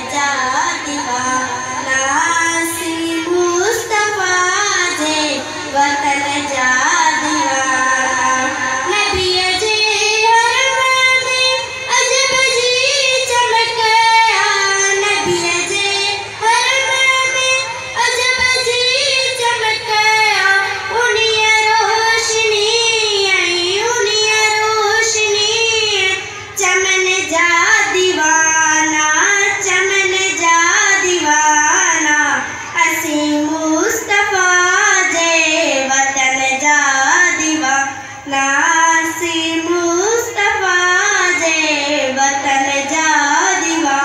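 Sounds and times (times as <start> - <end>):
girl singing unaccompanied: 0.0 - 44.0.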